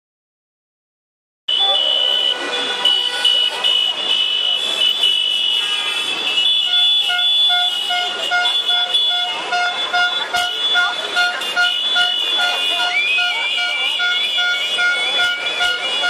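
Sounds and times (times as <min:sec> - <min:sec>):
horn beeping repeatedly: 0:01.5 - 0:16.0
vehicle horns blaring: 0:01.5 - 0:16.0.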